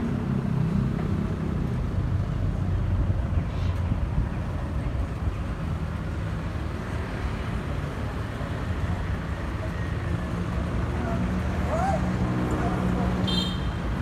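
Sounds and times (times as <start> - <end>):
airliner engines rumbling overhead: 0.0 - 13.4.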